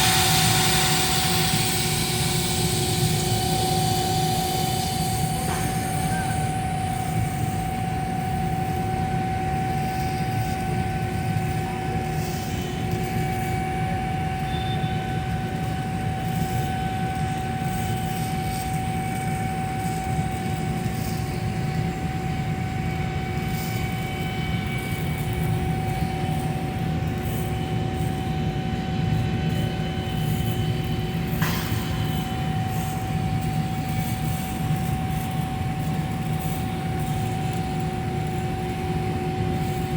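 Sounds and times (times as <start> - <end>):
machine drone with whine: 0.0 - 39.9.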